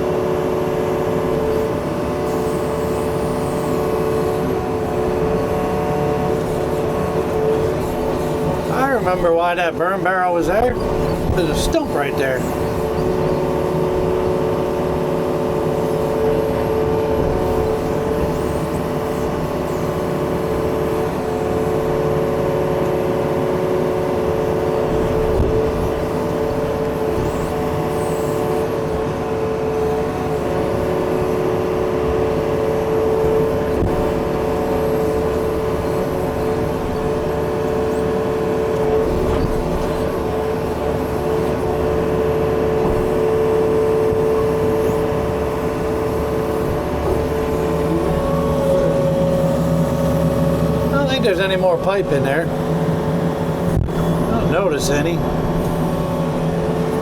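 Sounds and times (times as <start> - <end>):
excavator running: 0.0 - 57.0.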